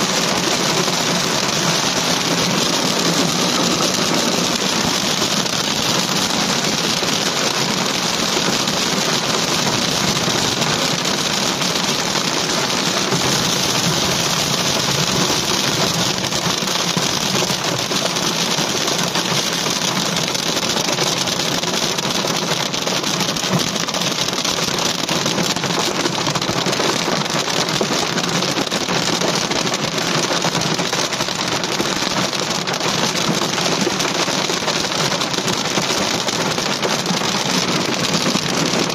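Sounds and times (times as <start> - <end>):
rain and hail on a car roof: 0.0 - 38.9.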